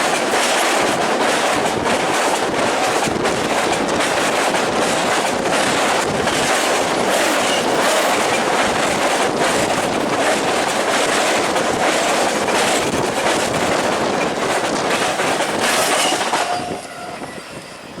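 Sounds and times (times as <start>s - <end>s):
train wheels clicking over rail joints: 0.0s - 18.0s.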